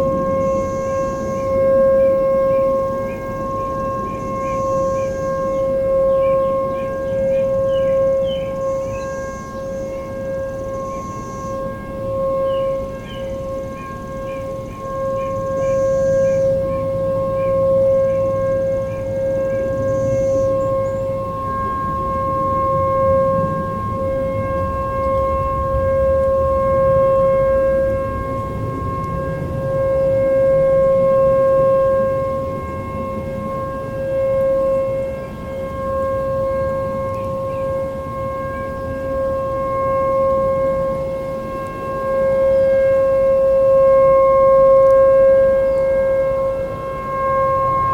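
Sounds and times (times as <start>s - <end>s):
distant warning siren tone: 0.0s - 47.9s.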